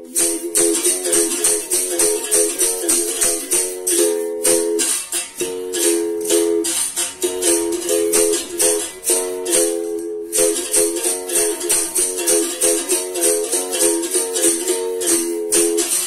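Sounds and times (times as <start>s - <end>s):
berimbau playing: 0.0s - 16.0s
shaker rattle: 0.0s - 16.0s.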